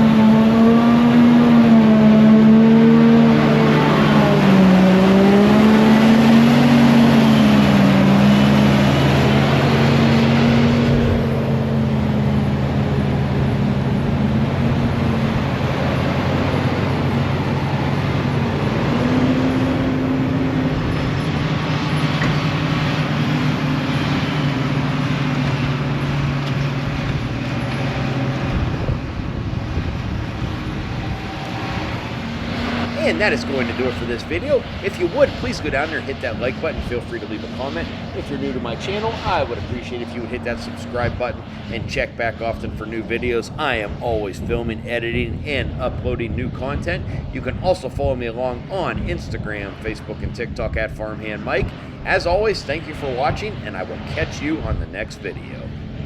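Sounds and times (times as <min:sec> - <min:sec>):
diesel farm machinery running: 0:00.0 - 0:56.0.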